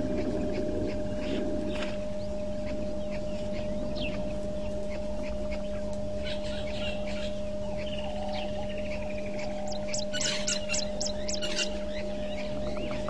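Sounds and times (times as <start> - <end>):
bird rattling trill: 0.0 - 13.0
birds chirping and whistling: 0.0 - 13.0
electrical hum: 0.0 - 13.0
low microphone rumble: 0.0 - 13.0.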